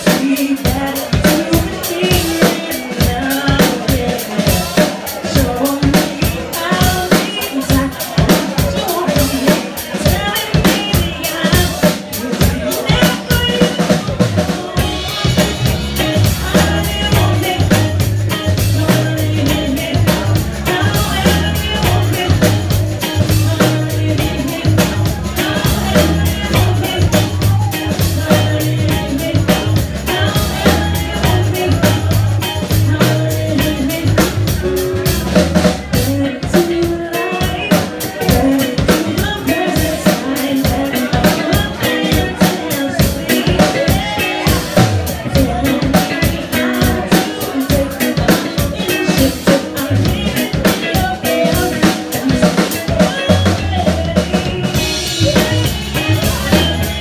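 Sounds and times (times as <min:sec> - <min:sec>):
bass line: 0:00.0 - 0:57.0
drum kit beat: 0:00.0 - 0:57.0
electric guitars: 0:00.0 - 0:57.0
person singing: 0:00.0 - 0:57.0.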